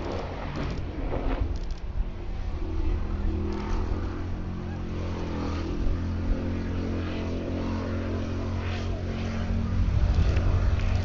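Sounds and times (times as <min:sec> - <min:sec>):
buggy engine running hard: 0:00.0 - 0:11.0.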